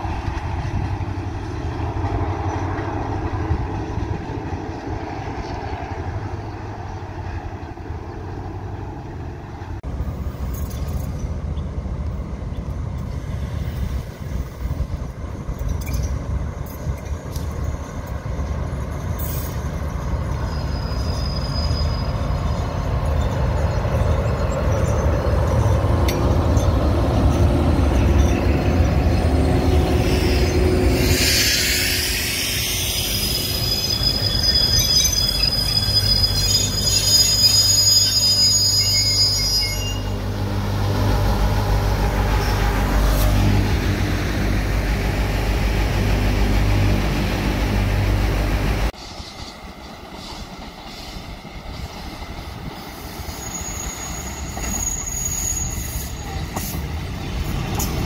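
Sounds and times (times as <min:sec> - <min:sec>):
diesel train engine running: 0:00.0 - 0:58.0
train wheels rumbling on rail: 0:00.0 - 0:58.0.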